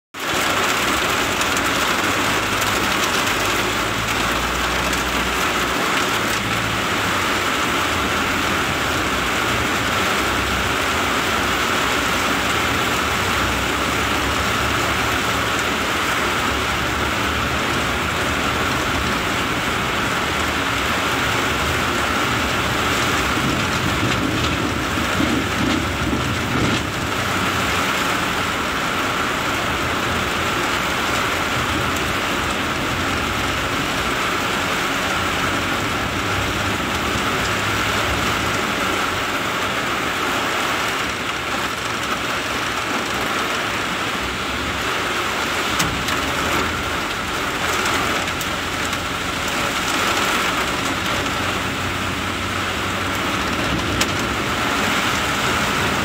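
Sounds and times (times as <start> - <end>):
engine and tyres rumbling: 0.2 - 56.0
heavy rain on a car: 0.2 - 56.0.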